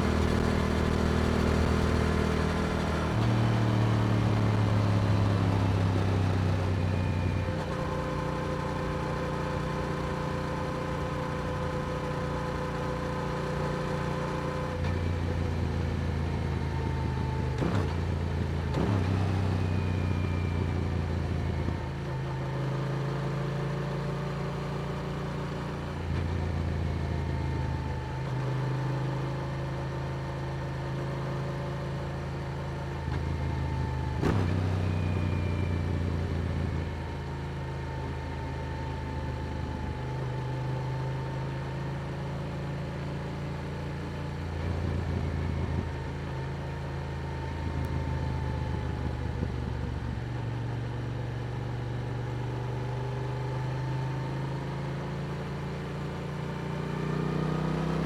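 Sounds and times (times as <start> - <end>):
road and wind noise: 0.0 - 23.9, 32.7 - 41.0, 41.8 - 58.0
motorcycle engine cruising: 0.0 - 30.8, 31.5 - 58.0.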